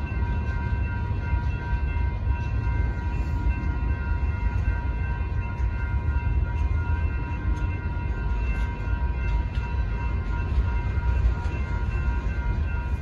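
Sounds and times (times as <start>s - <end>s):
crossing warning bells: 0.0s - 13.0s
train wheels rumbling on rail: 0.0s - 13.0s.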